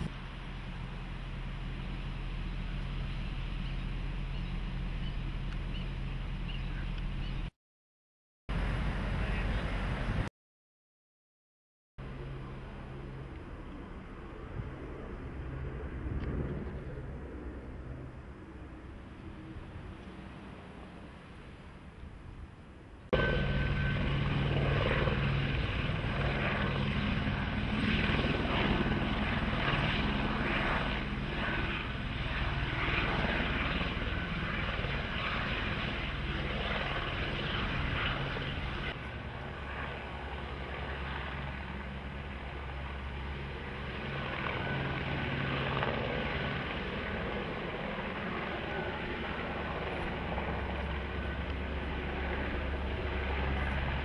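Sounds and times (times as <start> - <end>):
helicopter rotor and engine drone: 0.0 - 7.5, 8.5 - 10.3, 12.0 - 22.0, 22.8 - 54.0.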